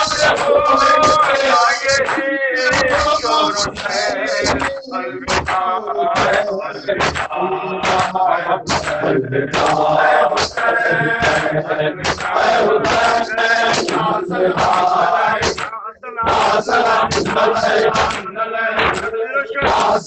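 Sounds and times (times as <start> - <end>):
man reciting: 0.0 - 20.0
men chanting in unison: 0.0 - 20.0
hands slapping chests: 0.1 - 20.0.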